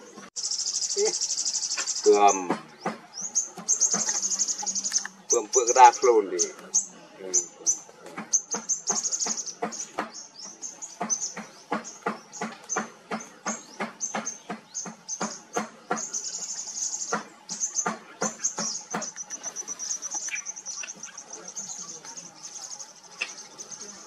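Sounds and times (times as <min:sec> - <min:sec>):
birds chirping: 0:00.0 - 0:24.0
high-pitched trilling chatter: 0:03.2 - 0:24.0.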